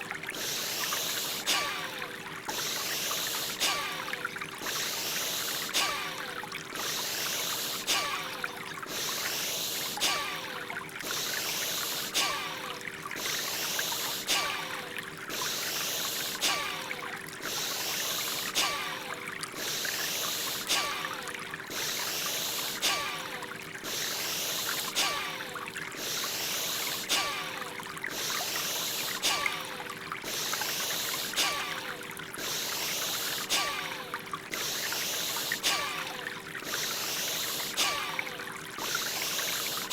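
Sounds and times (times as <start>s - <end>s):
flowing water: 0.0s - 39.9s
forceful rhythmic breathing: 0.2s - 39.9s.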